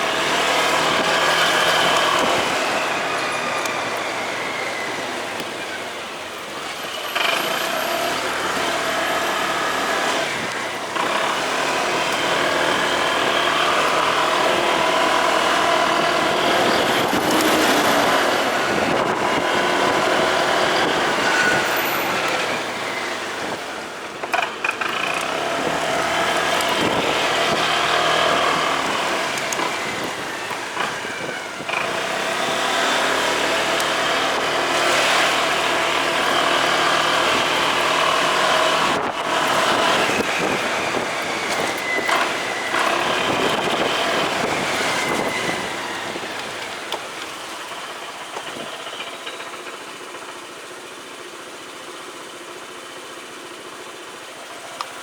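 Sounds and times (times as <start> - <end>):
road and traffic noise: 0.0 - 55.0.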